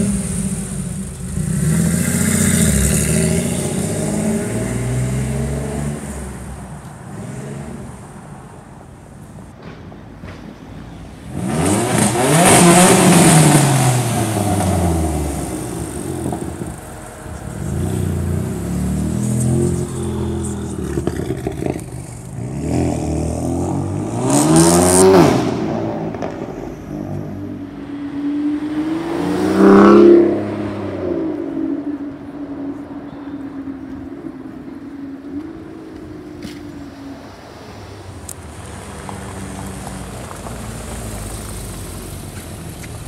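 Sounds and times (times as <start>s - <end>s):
car engines revving: 0.0s - 43.0s.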